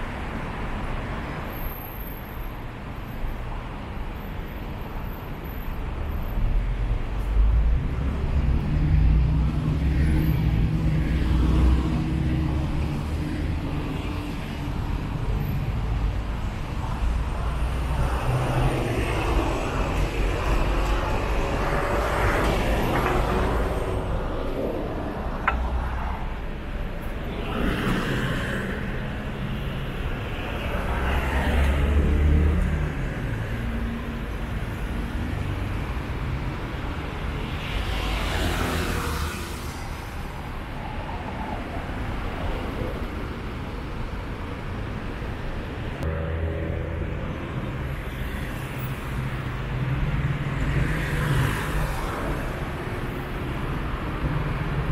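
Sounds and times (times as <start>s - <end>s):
rumble of car engines: 0.0s - 54.9s
vehicles passing: 0.0s - 54.9s.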